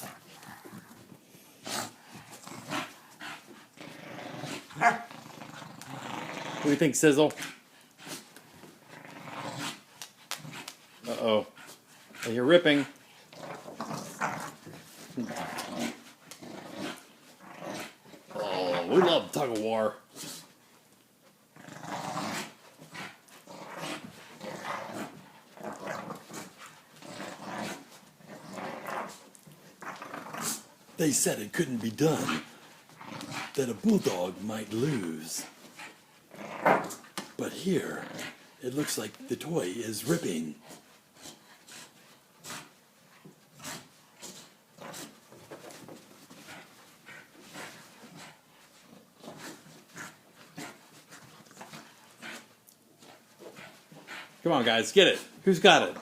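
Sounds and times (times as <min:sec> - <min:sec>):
dogs growling in play: 0:00.0 - 0:20.6, 0:21.4 - 0:56.0.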